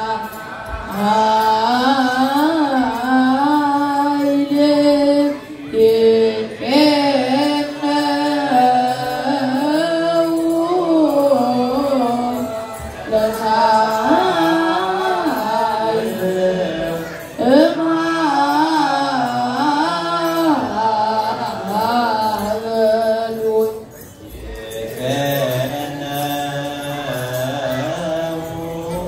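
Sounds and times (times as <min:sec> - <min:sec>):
group chanting a hymn in unison: 0:00.0 - 0:23.6, 0:24.2 - 0:29.0.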